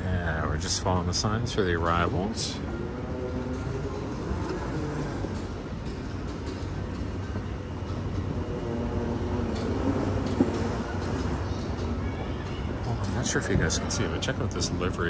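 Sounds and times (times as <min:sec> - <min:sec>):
airport terminal rumble and hum: 0:00.0 - 0:15.0.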